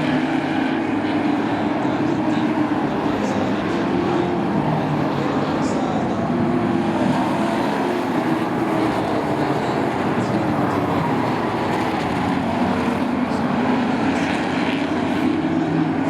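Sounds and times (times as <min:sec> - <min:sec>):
racing truck engines droning: 0:00.0 - 0:16.0.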